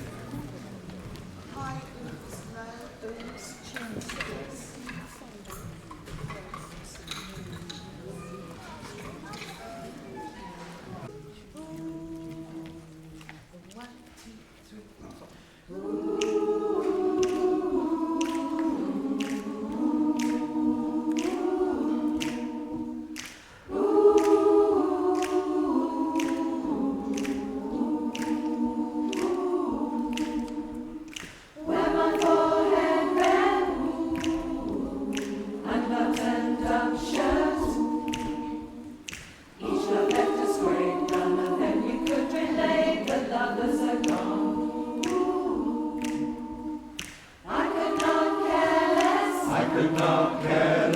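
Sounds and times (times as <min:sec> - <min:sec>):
choir singing a cappella: 0:00.0 - 0:13.6, 0:14.6 - 0:50.9.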